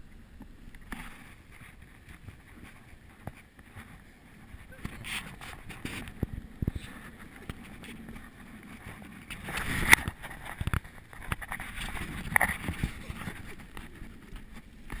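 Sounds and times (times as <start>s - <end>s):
wind buffeting microphone: 0.8s - 15.0s.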